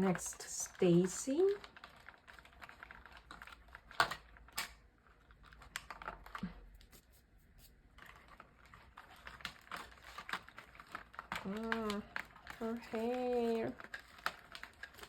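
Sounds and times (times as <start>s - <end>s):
hands handling plastic packaging: 0.0s - 15.0s.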